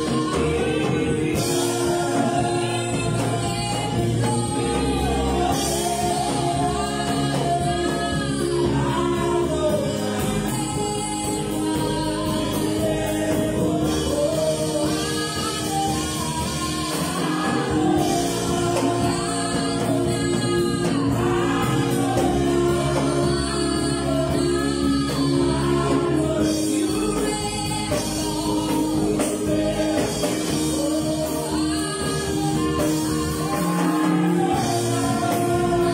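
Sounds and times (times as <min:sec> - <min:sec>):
man singing lead: 0:00.0 - 0:35.9
sustained keyboard chords: 0:00.0 - 0:35.9
women singing: 0:00.0 - 0:35.9.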